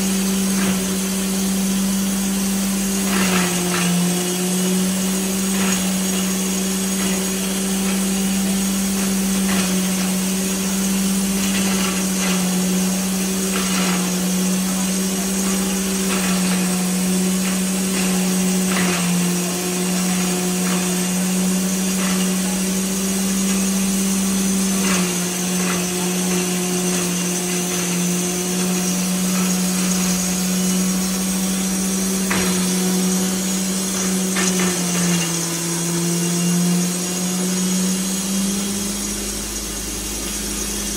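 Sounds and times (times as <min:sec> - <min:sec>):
corn grinder motor humming: 0:00.0 - 0:40.9.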